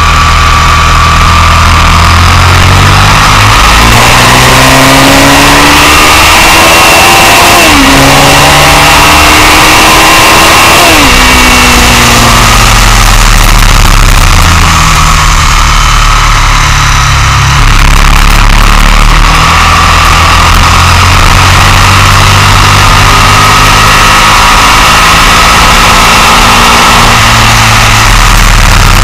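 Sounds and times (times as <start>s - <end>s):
motorcycle engine: 0.0s - 29.0s.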